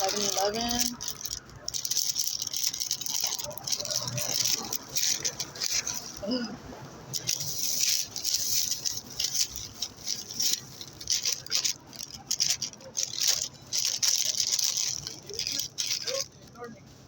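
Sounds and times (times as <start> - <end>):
plastic bag crinkling: 0.0 - 6.4, 7.1 - 16.7.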